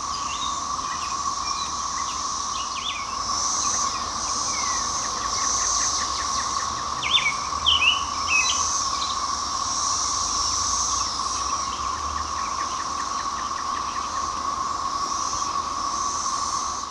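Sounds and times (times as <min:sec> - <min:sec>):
cicadas droning: 0:00.0 - 0:16.9.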